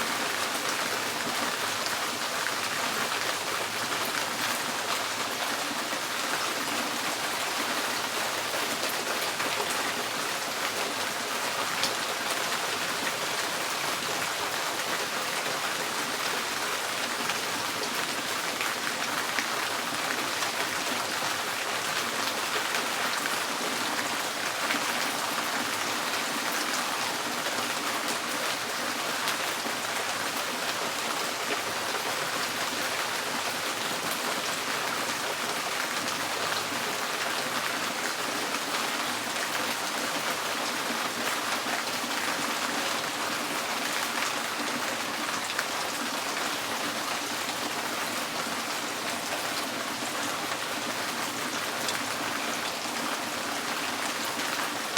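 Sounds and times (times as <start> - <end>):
rain drumming on a tin roof: 0.0 - 54.9.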